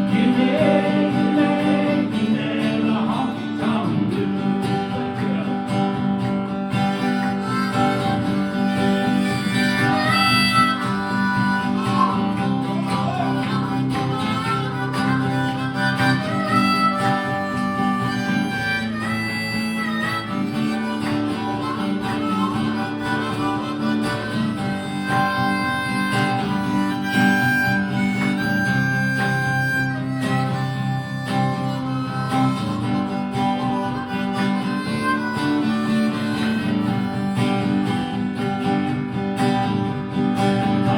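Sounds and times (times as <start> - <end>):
harmonica solo: 0.0 - 3.6, 4.4 - 40.9
strummed acoustic guitar: 0.0 - 40.9.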